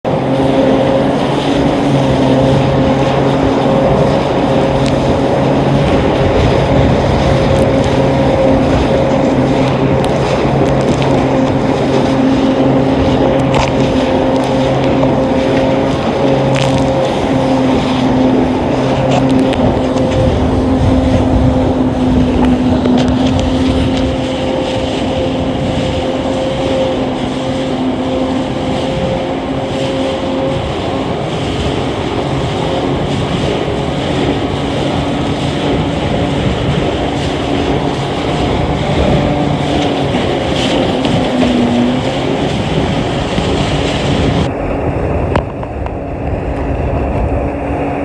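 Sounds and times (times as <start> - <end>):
jet ski engine whine: 0.0 - 48.0
rushing wind and water: 0.0 - 48.0.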